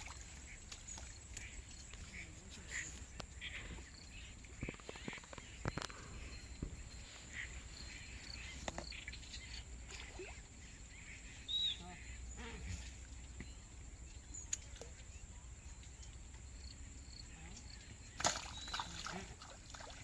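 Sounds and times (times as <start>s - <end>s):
bird chirp: 0.0s - 19.2s.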